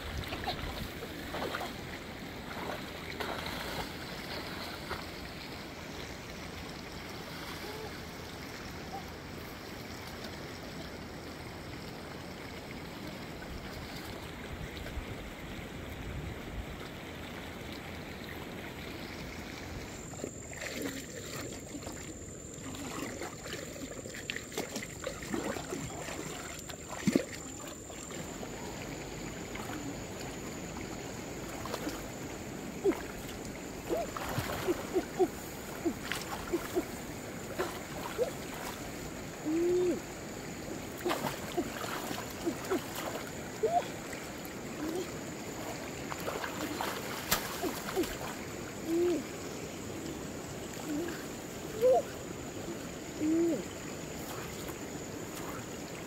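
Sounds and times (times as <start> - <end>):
water splashing: 0.0 - 10.5, 19.0 - 56.0
stream water sloshing: 0.0 - 56.0.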